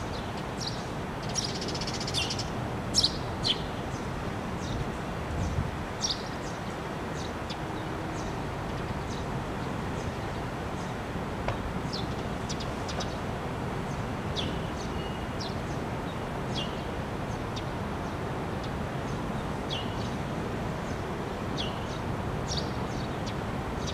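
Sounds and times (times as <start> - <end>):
small birds chirping: 0.0 - 13.2, 13.8 - 20.2, 20.8 - 23.9
distant city traffic hum: 0.0 - 23.9.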